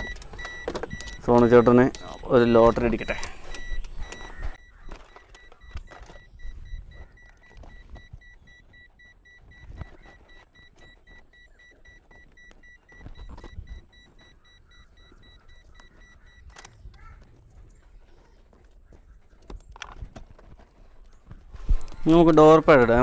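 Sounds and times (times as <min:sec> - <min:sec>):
wires and tools rustling: 0:00.0 - 0:23.0.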